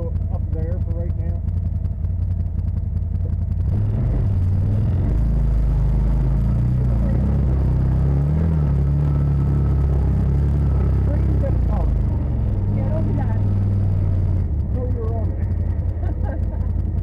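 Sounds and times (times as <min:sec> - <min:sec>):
utility vehicle engine droning: 0:00.0 - 0:17.0.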